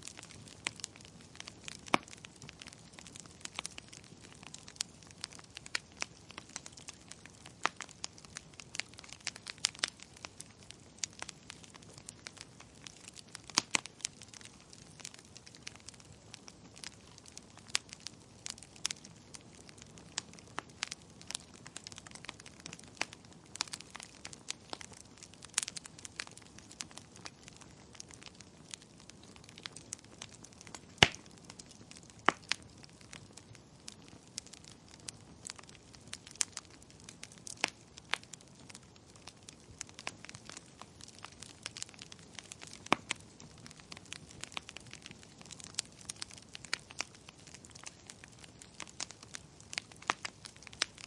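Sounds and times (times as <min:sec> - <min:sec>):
burning logs crackling: 0:00.0 - 0:51.0
faint steady hiss: 0:00.0 - 0:51.0.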